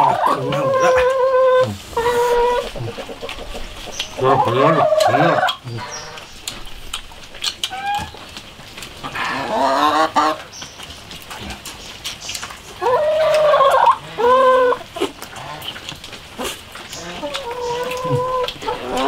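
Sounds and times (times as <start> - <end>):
poultry calling: 0.0 - 19.0.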